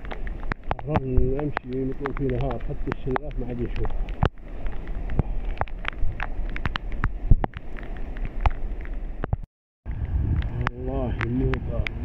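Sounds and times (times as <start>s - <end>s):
raindrops ticking: 0.0s - 12.0s
wind rumbling on microphone: 0.0s - 12.0s.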